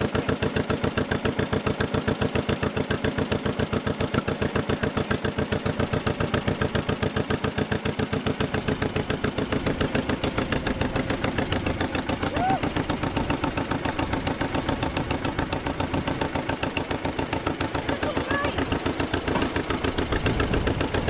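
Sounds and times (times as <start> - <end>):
tractor engine popping: 0.0 - 21.0.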